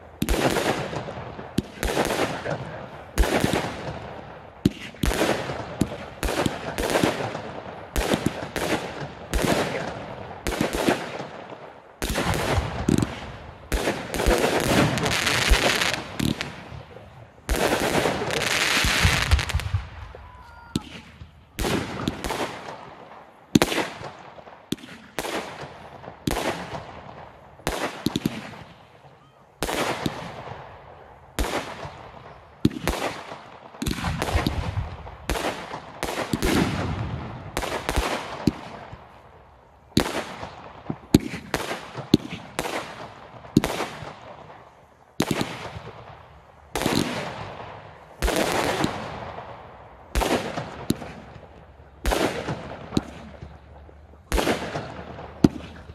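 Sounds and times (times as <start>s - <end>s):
firework crackling: 0.0s - 28.8s, 29.6s - 55.9s.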